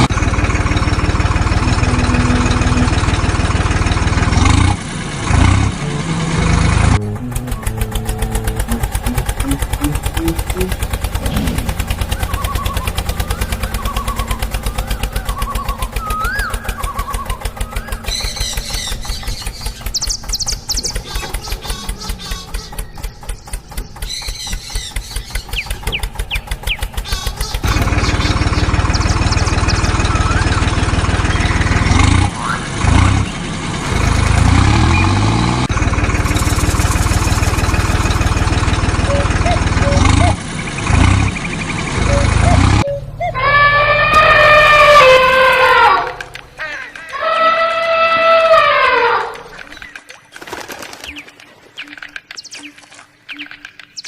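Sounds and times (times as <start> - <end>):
tractor engine chugging: 0.0 - 50.3.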